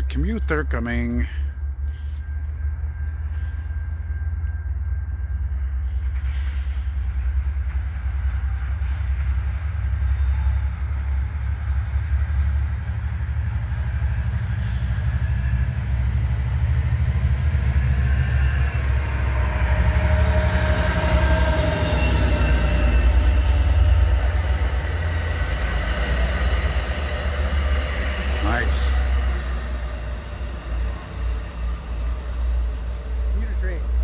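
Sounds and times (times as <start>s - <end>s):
commuter train passing: 0.0s - 34.0s
rail and wheel noise: 0.0s - 34.0s.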